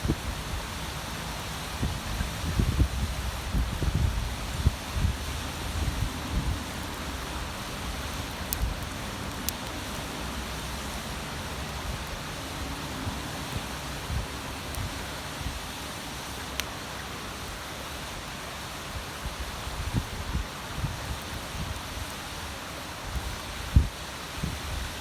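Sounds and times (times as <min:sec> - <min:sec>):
fire crackles: 0:00.0 - 0:25.0
wood bonfire hissing: 0:00.0 - 0:25.0.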